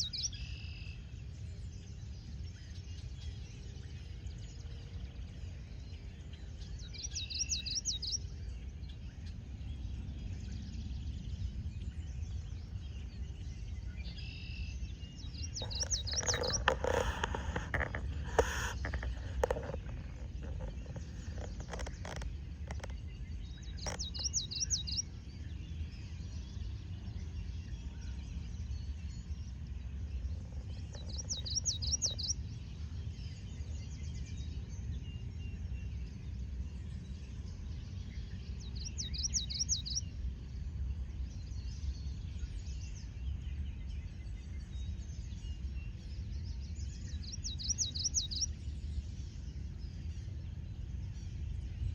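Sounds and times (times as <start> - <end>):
songbird singing: 0.0 - 51.9
steady low rumble: 8.2 - 51.9.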